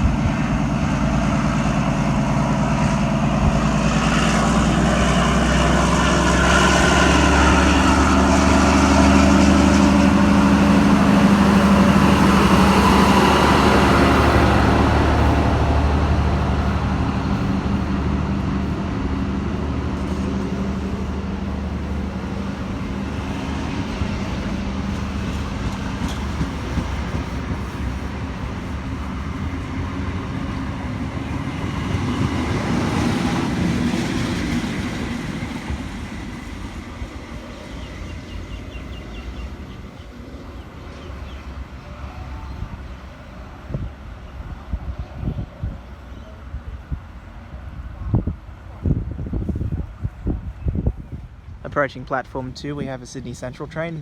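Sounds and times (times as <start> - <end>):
train engine low drone: 0.0 - 54.0.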